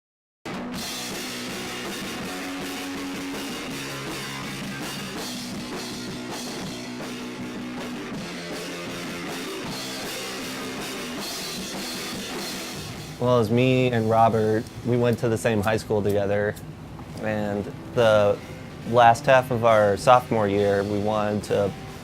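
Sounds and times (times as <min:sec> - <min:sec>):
rock music with drums and guitar: 0:00.5 - 0:22.0.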